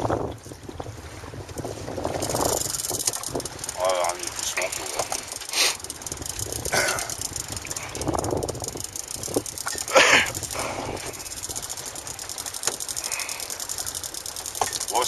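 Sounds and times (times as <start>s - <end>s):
outboard motor idling: 1.6s - 15.0s.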